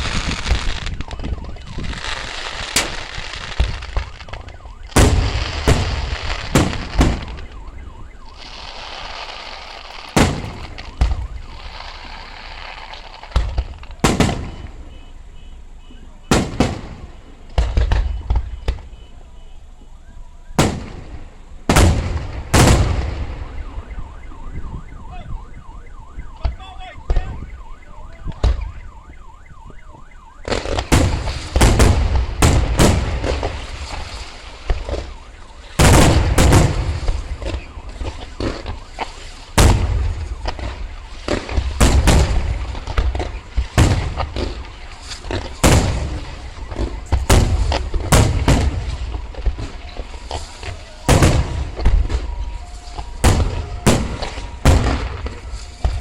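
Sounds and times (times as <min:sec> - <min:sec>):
firework barrage crackling: 0:00.0 - 0:19.8, 0:20.4 - 0:56.0.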